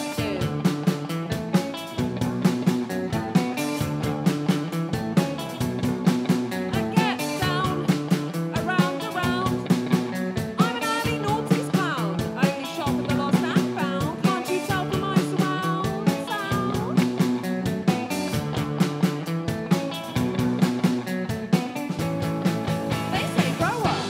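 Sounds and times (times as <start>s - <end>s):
guitar: 0.0s - 24.0s
live rock band playing: 0.0s - 24.0s
steady drum beat: 0.0s - 24.0s.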